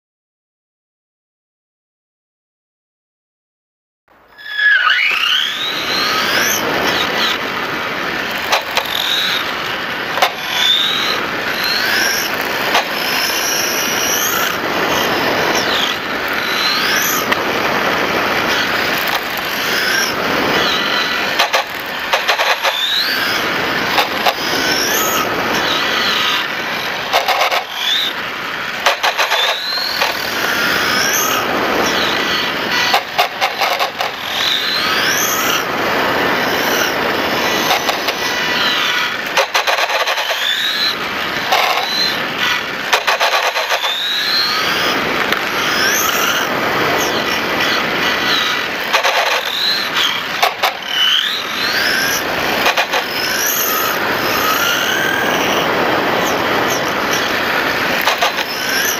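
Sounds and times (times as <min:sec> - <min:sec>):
wind and road noise: 0:04.1 - 0:58.9
rc motorcycle motor revving: 0:04.2 - 0:58.9.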